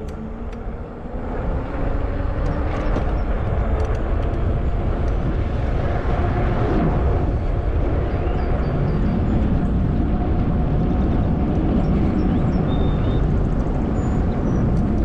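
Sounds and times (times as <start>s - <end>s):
tyre and road noise: 0.0s - 15.0s
wind on microphone: 0.0s - 15.0s.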